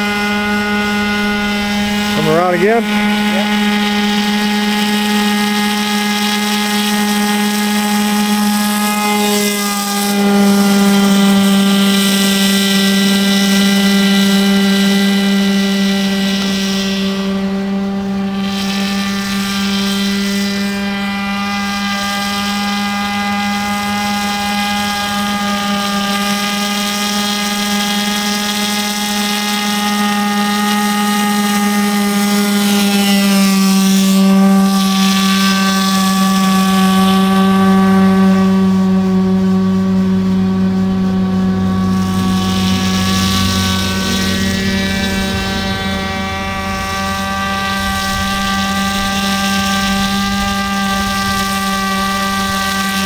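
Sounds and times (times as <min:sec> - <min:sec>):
model boat engine high-pitched buzz: 0:00.0 - 0:53.0.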